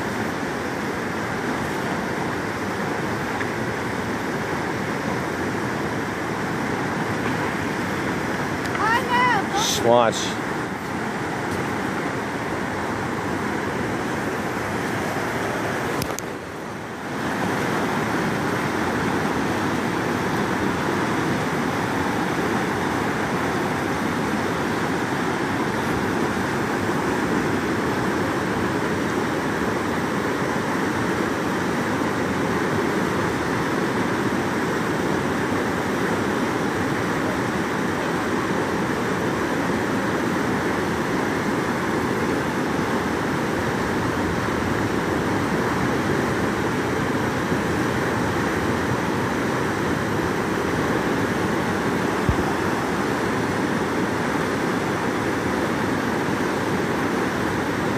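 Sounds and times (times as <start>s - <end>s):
rushing whitewater rapids: 0.0s - 57.9s.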